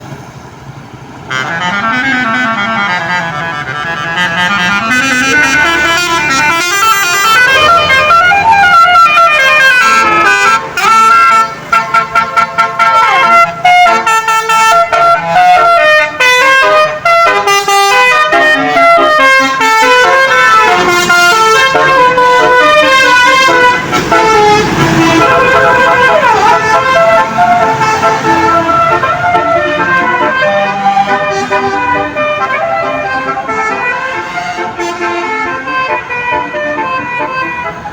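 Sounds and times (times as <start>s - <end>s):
bus horn playing a melody: 1.2s - 37.9s.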